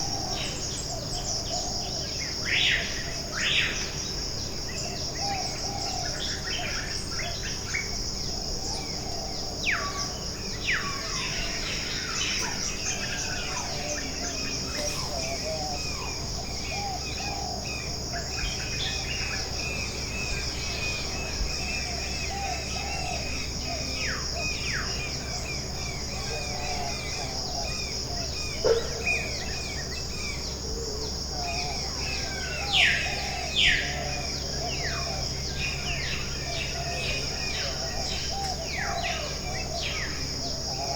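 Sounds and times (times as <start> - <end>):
birds chirping and calling: 0.0 - 40.9.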